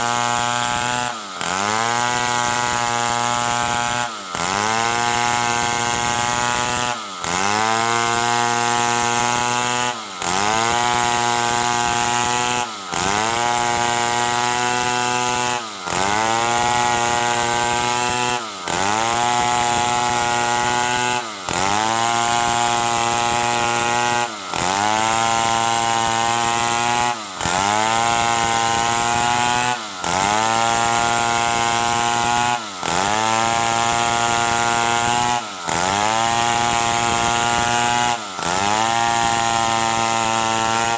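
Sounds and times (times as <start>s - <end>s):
chainsaw sawing wood: 0.0s - 40.9s.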